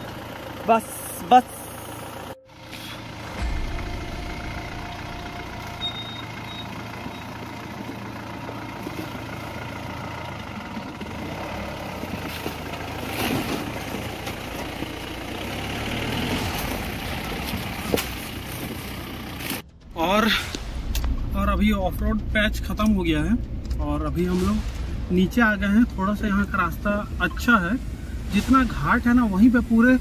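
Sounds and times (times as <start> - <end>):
diesel engine at low revs: 0.0 - 30.0.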